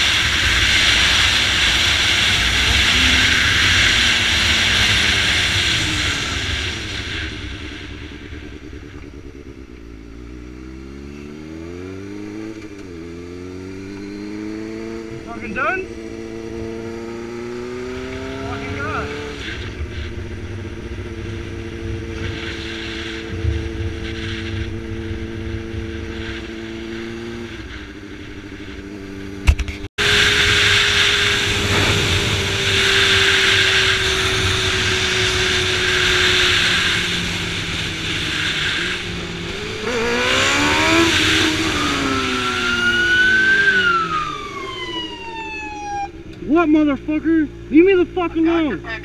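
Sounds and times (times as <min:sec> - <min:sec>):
motorcycle engine running: 0:00.0 - 0:42.8
motorcycle engine revving: 0:00.0 - 0:49.0.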